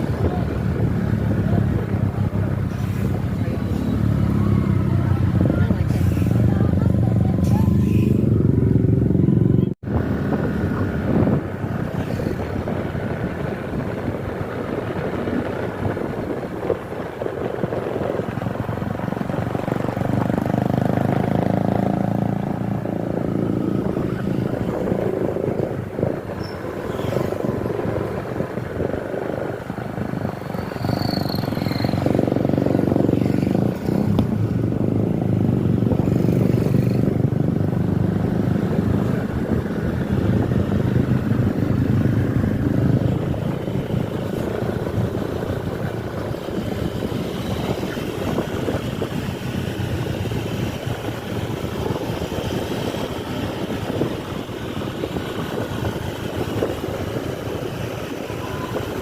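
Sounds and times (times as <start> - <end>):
vehicle engines in traffic: 0.0 - 59.0.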